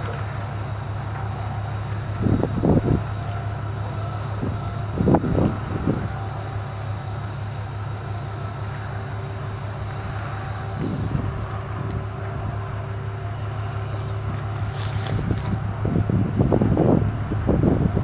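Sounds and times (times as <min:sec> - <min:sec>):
engine running drone: 0:00.0 - 0:18.0.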